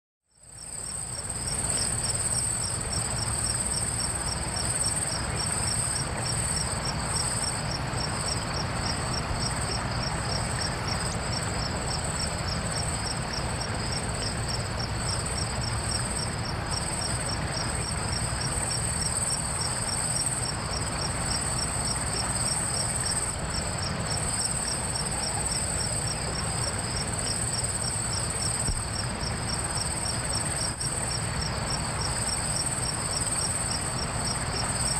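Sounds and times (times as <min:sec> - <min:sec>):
insect chirps: 0:00.3 - 0:34.9
insect high-pitched trill: 0:00.3 - 0:34.9
low background hiss: 0:00.3 - 0:34.9.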